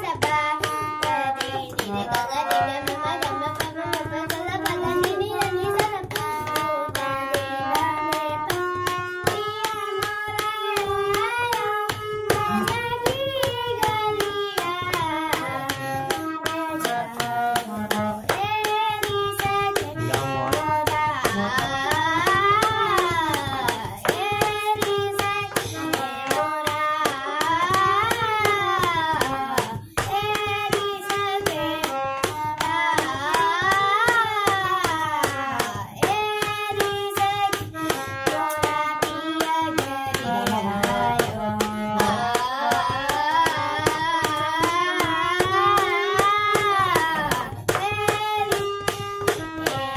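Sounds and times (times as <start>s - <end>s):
boy singing: 0.0s - 49.9s
harmonium: 0.0s - 49.9s
sharp percussive strokes: 0.0s - 49.9s.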